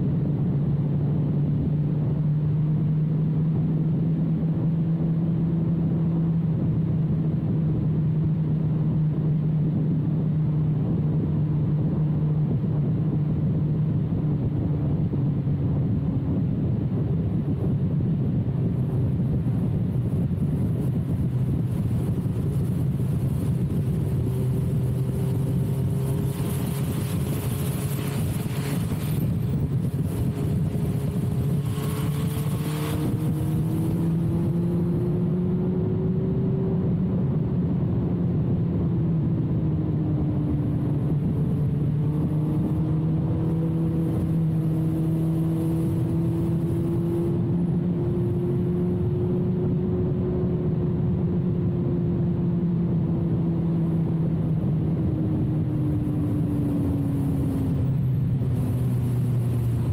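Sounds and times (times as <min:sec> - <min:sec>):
wind rush: 0:00.0 - 0:59.9
motorcycle engine running: 0:02.4 - 0:59.9.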